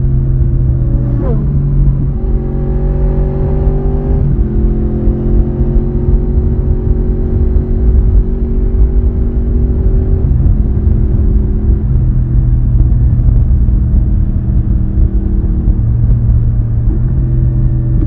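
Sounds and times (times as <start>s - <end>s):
low wind rumble: 0.0s - 18.0s
motorcycle engine and exhaust: 0.0s - 18.0s.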